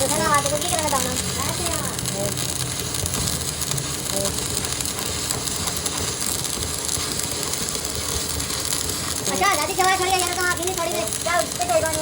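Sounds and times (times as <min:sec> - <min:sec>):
fine rapid ticking: 0:00.0 - 0:12.0.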